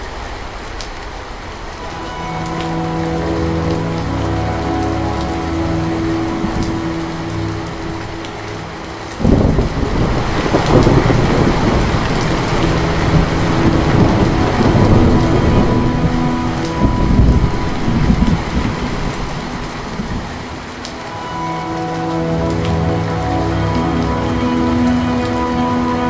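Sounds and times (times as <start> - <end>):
steady rain: 0.0 - 26.0
thunder rumbling: 1.8 - 26.0.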